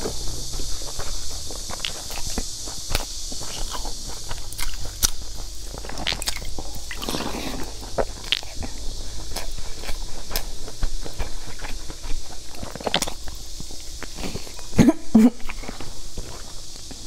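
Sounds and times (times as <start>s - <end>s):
wet chewing sounds: 0.0s - 17.0s.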